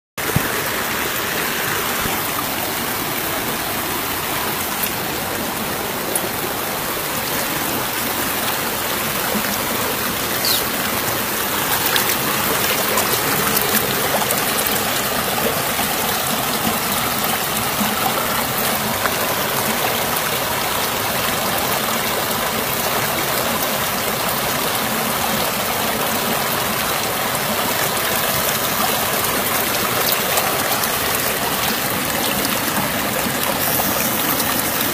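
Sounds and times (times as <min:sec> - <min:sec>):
river water rushing over rocks: 0:00.2 - 0:34.9.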